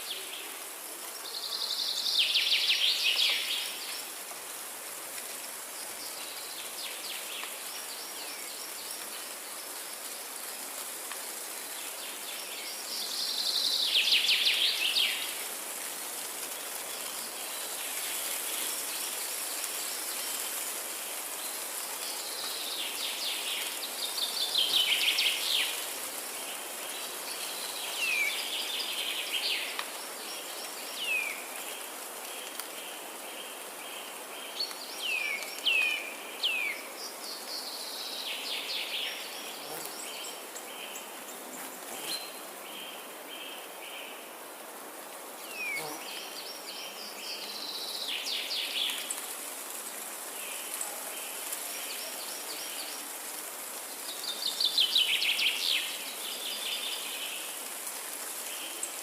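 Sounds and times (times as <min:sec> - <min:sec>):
high hiss of insects: 0:00.0 - 0:59.0.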